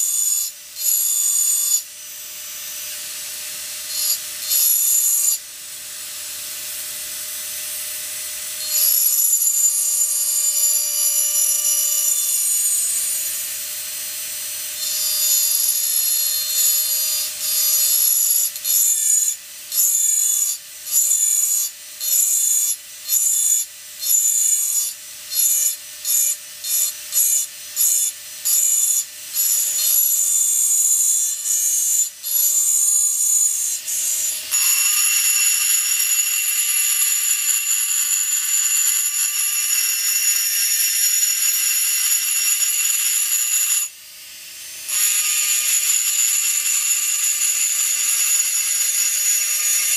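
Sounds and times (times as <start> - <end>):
rotary engraving tool whining: 0.0 - 49.9.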